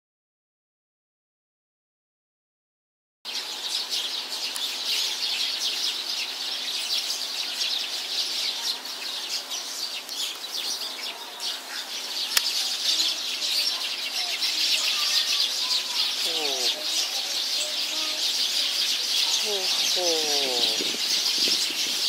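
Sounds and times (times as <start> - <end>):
sparrows chirping: 3.3 - 22.0.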